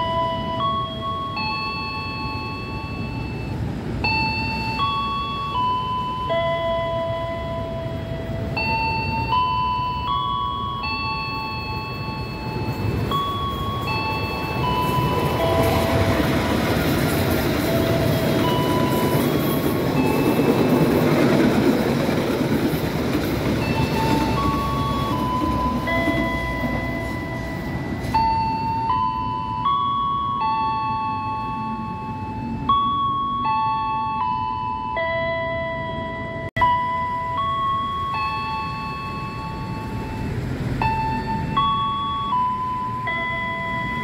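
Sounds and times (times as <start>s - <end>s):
train wheels on rails: 0.0s - 35.2s, 36.0s - 44.0s
glockenspiel-like chiming melody: 0.0s - 44.0s.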